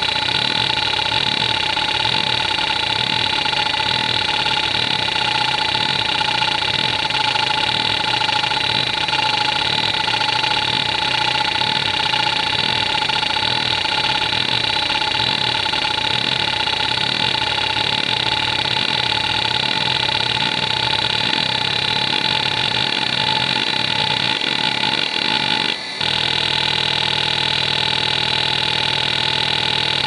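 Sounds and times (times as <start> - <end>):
hard drive heads seeking chatter: 0.0 - 30.0
hard drive whine: 0.0 - 30.0.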